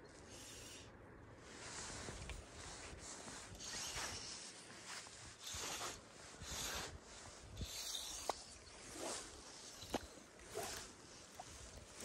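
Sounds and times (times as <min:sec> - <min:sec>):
fly line swishing through rod guides: 0:01.8 - 0:12.0.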